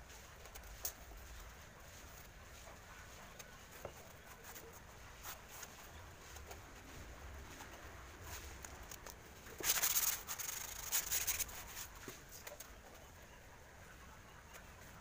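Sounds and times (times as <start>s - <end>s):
soft rustle: 0.0s - 13.2s.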